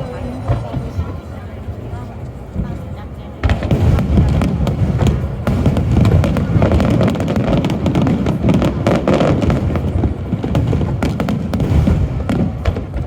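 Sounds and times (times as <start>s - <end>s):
fireworks cracking and banging: 1.8s - 13.0s.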